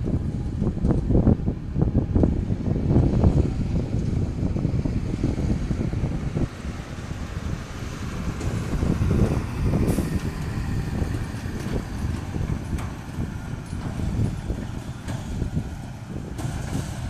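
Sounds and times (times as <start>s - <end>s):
low machinery rumble: 0.0s - 17.0s
wind buffeting microphone: 0.0s - 17.0s.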